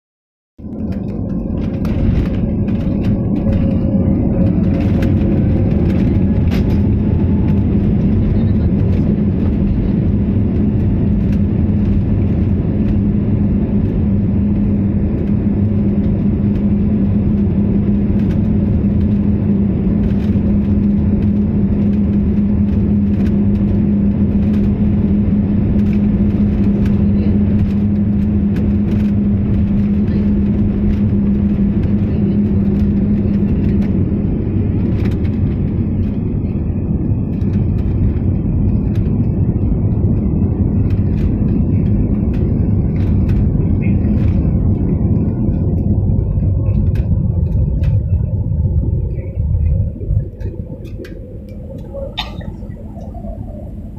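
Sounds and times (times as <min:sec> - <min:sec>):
jet engines rumbling in cabin: 0:00.6 - 0:53.9.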